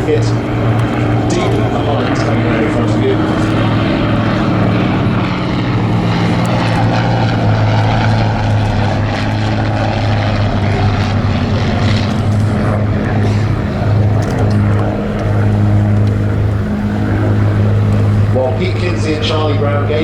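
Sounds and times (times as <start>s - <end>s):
propeller planes droning past: 0.0s - 20.0s.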